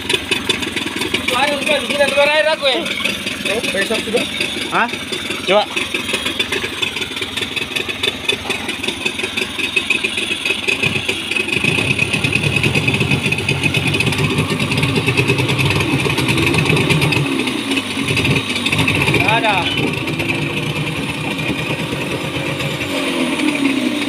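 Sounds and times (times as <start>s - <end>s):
outboard motor running: 0.0s - 24.0s
propeller churning water: 0.0s - 24.0s.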